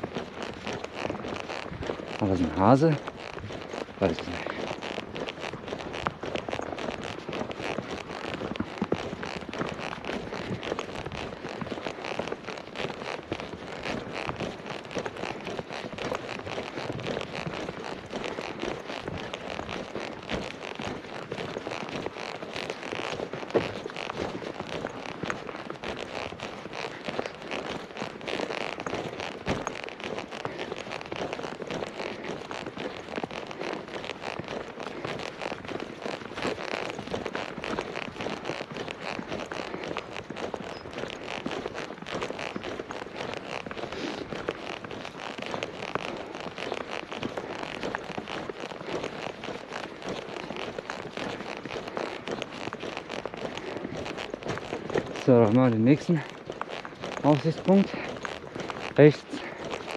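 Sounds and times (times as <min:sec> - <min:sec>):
footsteps crunching through snow: 0:00.0 - 0:59.9.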